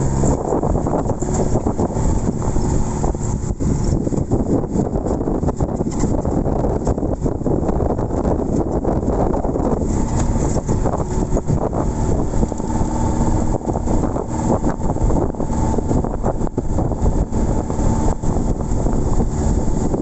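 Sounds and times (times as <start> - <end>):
vehicle engine running: 0.0 - 20.0
wind buffeting microphone: 0.0 - 20.0.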